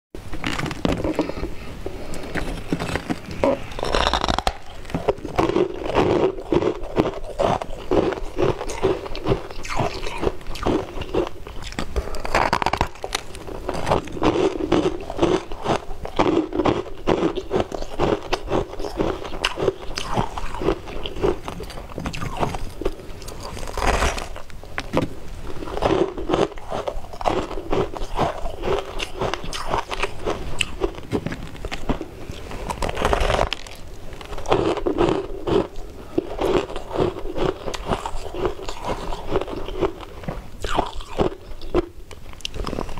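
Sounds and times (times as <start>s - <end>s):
ice crunching between teeth: 0.4s - 42.9s.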